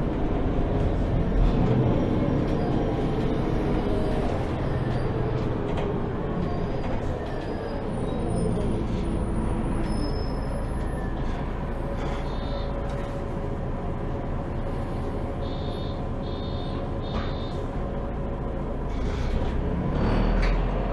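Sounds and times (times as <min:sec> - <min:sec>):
bus engine and road rumble: 0:00.0 - 0:20.9.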